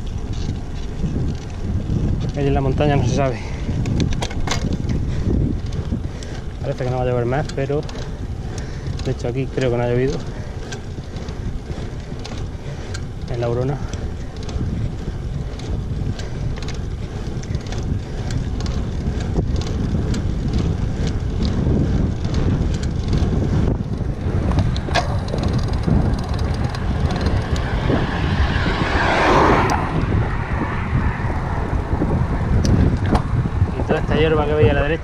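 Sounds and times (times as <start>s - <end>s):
bike rumbling on tarmac: 0.0s - 35.0s
wind buffeting microphone: 0.0s - 35.0s.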